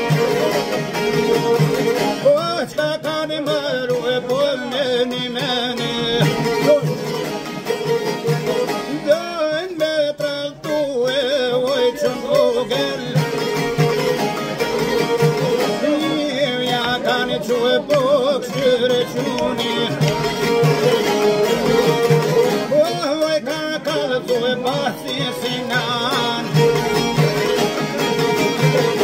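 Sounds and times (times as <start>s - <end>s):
man singing: 0.0s - 7.3s, 8.1s - 29.0s
plucked lute melody: 0.0s - 29.0s.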